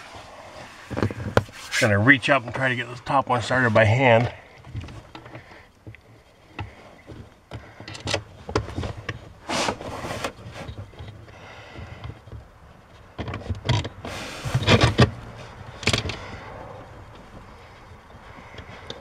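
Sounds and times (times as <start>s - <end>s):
hands scraping plastic and metal: 0.5s - 2.8s, 3.5s - 19.0s.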